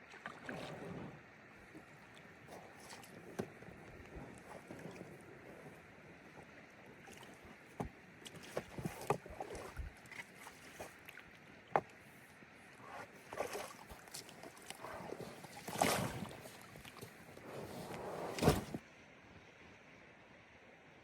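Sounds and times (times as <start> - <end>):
water swishing and splashing: 0.0 - 18.8.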